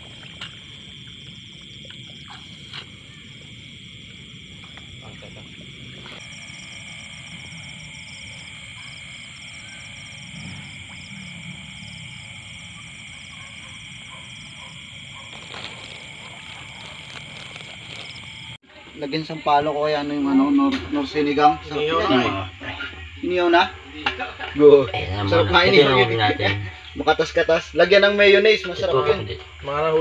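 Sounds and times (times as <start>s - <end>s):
frogs and insects trilling: 0.0s - 30.0s.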